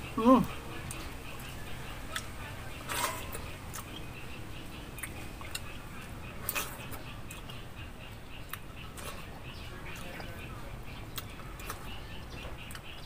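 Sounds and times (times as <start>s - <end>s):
man eating with wet smacking: 0.4s - 13.0s.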